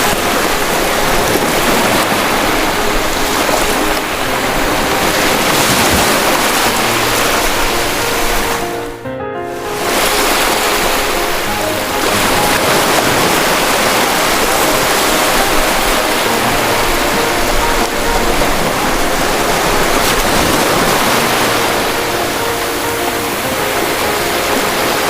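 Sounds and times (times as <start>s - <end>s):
ocean waves breaking: 0.0s - 25.0s
soft background music: 0.0s - 25.0s.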